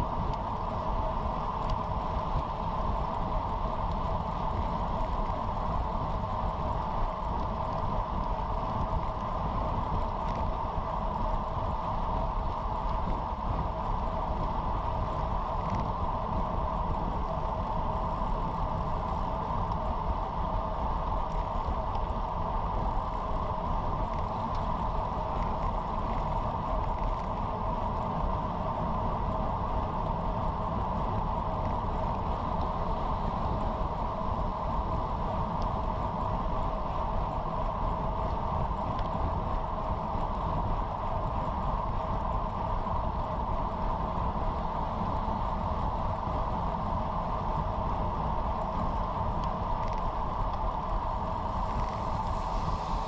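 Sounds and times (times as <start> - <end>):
bicycle tyre road noise: 0.0 - 53.0
wind rush on microphone: 0.0 - 53.0.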